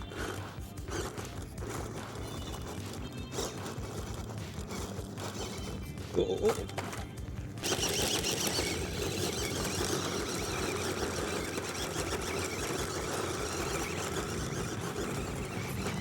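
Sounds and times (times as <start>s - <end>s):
electric motor and gearbox whirring: 0.0s - 16.0s.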